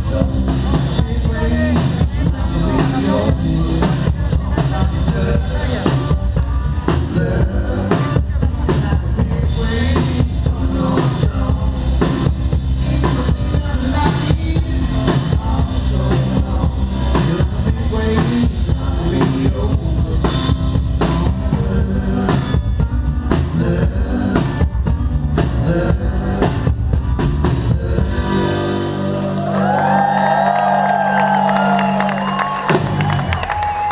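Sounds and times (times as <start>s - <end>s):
person singing: 0.0s - 30.0s
drum kit: 0.0s - 33.9s
live rock band playing: 0.0s - 33.9s.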